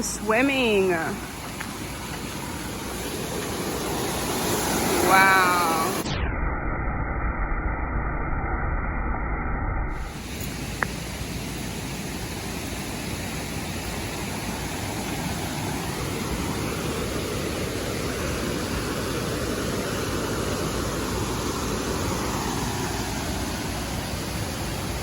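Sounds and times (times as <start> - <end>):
waterfall rushing: 0.0 - 6.1, 10.0 - 25.0.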